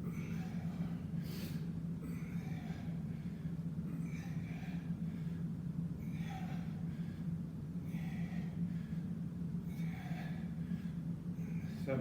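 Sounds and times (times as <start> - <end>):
man breathing hard: 0.0 - 12.0
steady low hum: 0.0 - 12.0.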